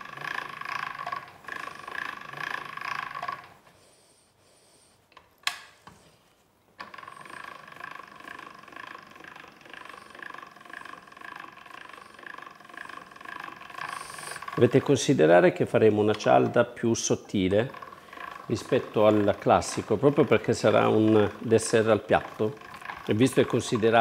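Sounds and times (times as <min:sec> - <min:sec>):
pasta machine crank whirring: 0:00.0 - 0:03.8, 0:06.8 - 0:24.0.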